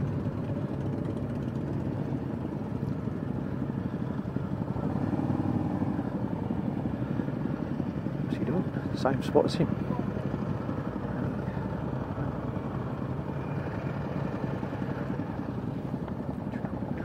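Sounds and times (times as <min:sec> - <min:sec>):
motorcycle engine low rumble: 0:00.0 - 0:17.0.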